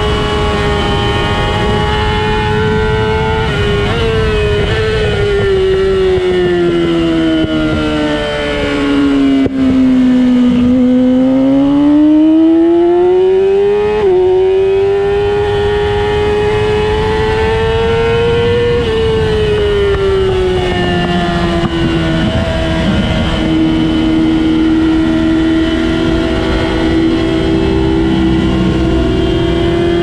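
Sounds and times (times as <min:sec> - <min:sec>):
high-revving engine: 0:00.0 - 0:30.0.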